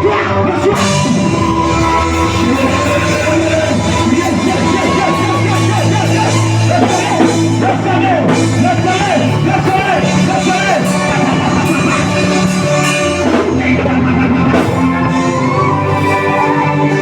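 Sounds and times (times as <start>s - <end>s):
keyboard chords: 0.0s - 17.0s
sustained bass: 0.0s - 17.0s.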